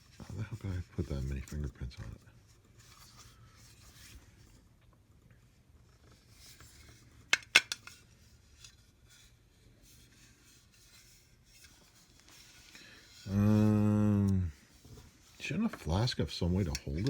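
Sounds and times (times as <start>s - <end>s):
faint rubbing: 0.0s - 4.7s, 8.0s - 17.0s.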